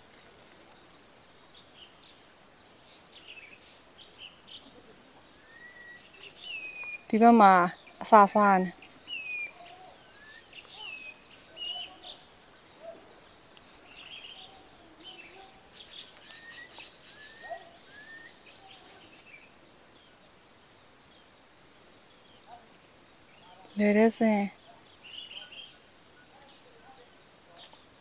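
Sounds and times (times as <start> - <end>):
insects droning: 0.0 - 28.0
small birds chirping: 0.0 - 28.0.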